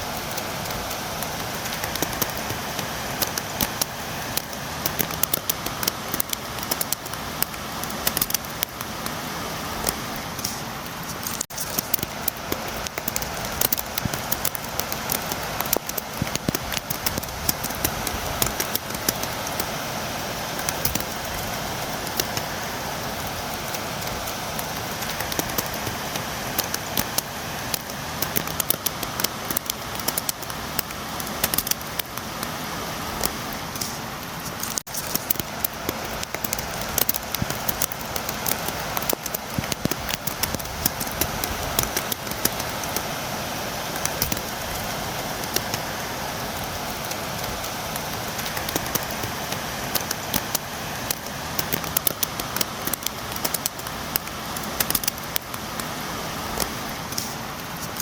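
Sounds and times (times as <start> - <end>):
rain pattering against window: 0.0 - 58.0.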